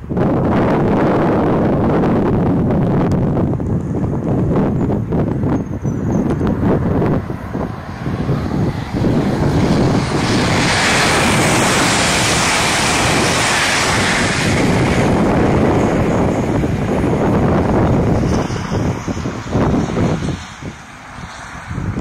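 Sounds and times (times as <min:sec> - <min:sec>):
train passing at high speed: 0:00.0 - 0:22.0
wind buffeting microphone: 0:00.0 - 0:22.0.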